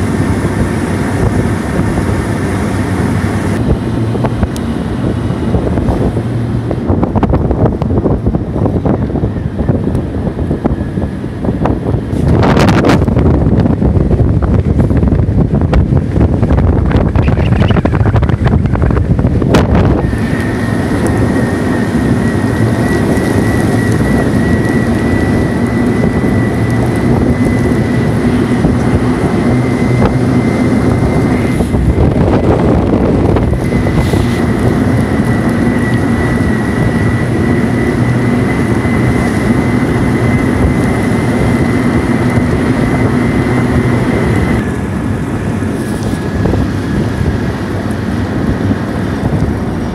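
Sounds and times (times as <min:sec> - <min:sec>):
all-terrain vehicle engine running: 0:00.0 - 0:49.9
steady high whine: 0:00.0 - 0:49.9.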